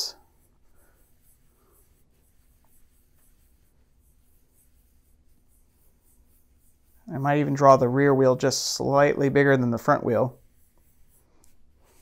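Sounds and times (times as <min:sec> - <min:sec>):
pen scratching on paper: 0:00.0 - 0:07.7, 0:09.8 - 0:12.0.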